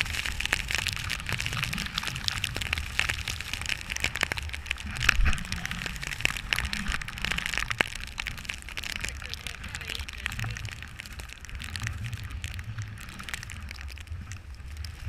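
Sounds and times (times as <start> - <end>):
muffled wind and riding rumble: 0.0 - 15.0
small crackles and ticks: 0.0 - 15.0.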